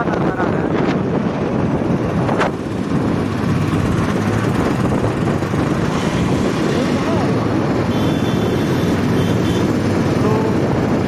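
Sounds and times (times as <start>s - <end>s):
motorcycle engine running: 1.2s - 11.0s.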